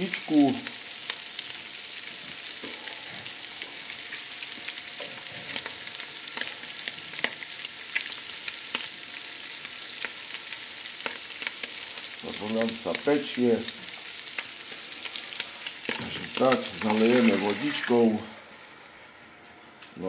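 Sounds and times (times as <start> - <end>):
tripe sizzling in fat: 0.0 - 20.0.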